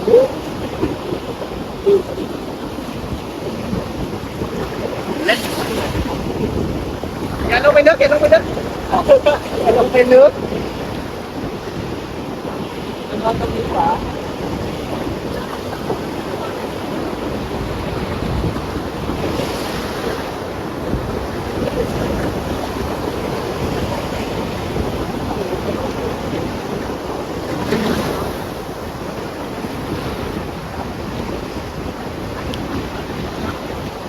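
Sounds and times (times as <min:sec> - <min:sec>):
sea surf waves: 0:00.0 - 0:34.0
wind buffeting microphone: 0:00.0 - 0:34.0.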